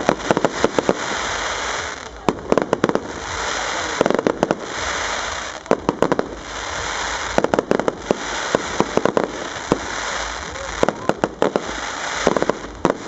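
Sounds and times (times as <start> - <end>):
fireworks bangs: 0.0 - 13.0
steady hiss: 0.0 - 13.0.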